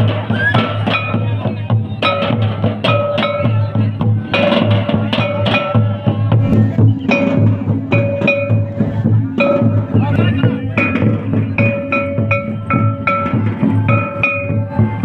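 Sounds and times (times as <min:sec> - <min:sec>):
deep booming drum: 0:00.0 - 0:15.0
drums beaten in steady rhythm: 0:00.0 - 0:15.0.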